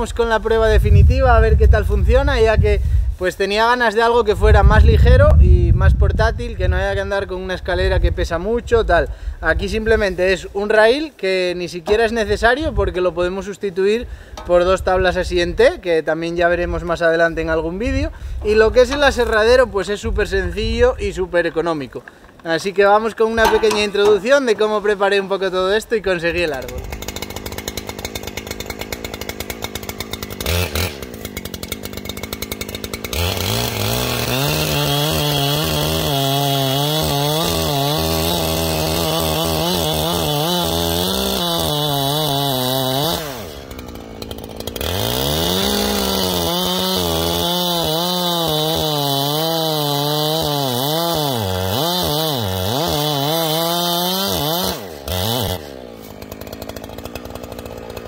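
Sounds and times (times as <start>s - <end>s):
chainsaw cutting tree trunk: 0.0s - 7.0s, 7.6s - 58.0s.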